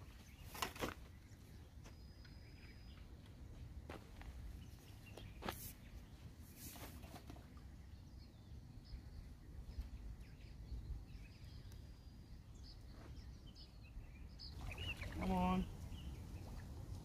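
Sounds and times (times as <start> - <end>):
distant bird chirps: 0.0 - 3.6, 4.5 - 17.0.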